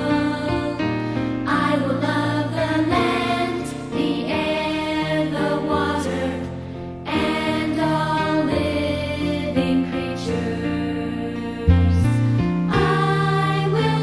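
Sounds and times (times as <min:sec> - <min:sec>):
slow music of held chords: 0:00.0 - 0:14.0.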